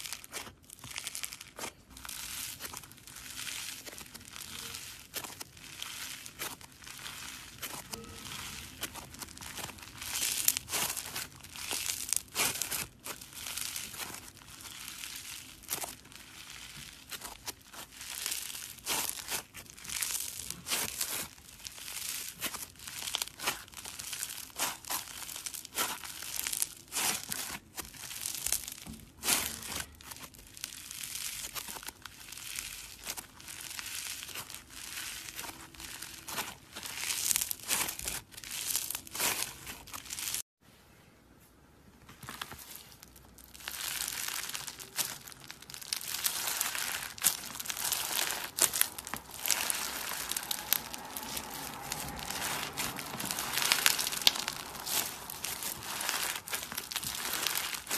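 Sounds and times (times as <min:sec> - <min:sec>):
crunchy slime crackling: 0:00.0 - 0:40.5, 0:42.2 - 0:57.9.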